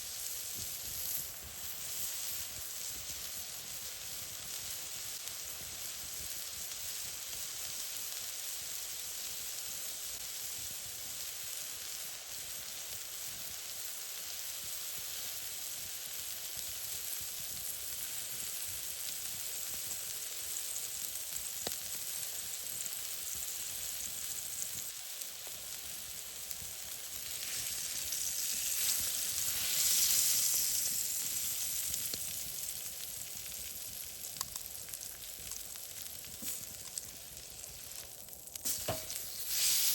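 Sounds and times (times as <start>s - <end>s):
food sizzling over fire: 0.0s - 39.9s.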